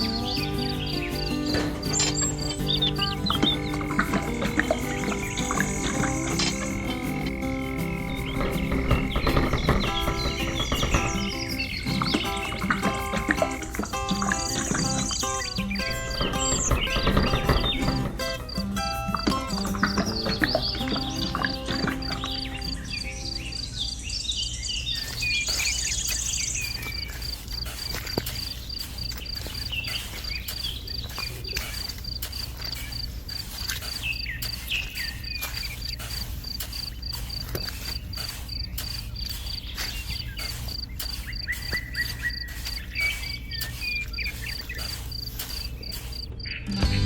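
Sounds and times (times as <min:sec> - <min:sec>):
insect chirping: 0:00.0 - 0:47.0.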